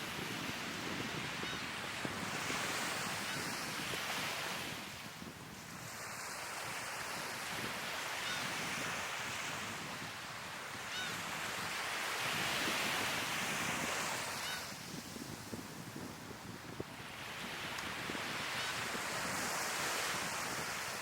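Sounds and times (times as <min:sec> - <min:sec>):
waves breaking on shore: 0:00.0 - 0:21.0.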